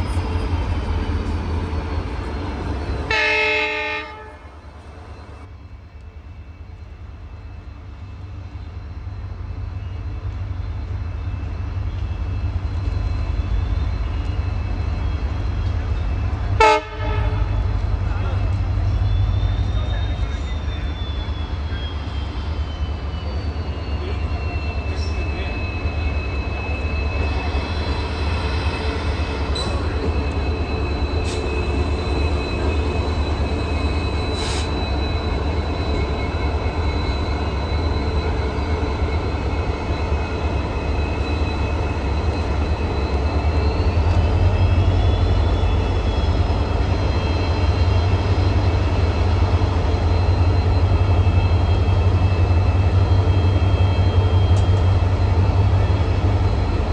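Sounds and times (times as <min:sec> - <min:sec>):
diesel locomotive engine rumble: 0:00.0 - 0:56.9.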